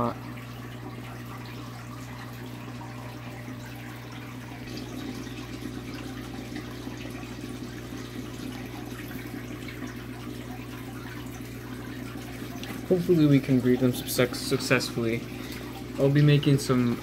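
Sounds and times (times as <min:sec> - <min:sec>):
low electrical hum: 0:00.0 - 0:17.0
water trickling and splashing: 0:00.0 - 0:17.0.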